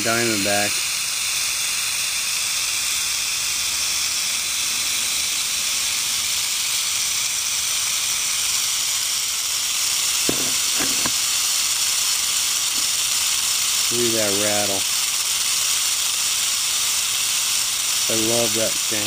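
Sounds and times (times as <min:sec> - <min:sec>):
rattlesnake rattling: 0:00.0 - 0:19.0.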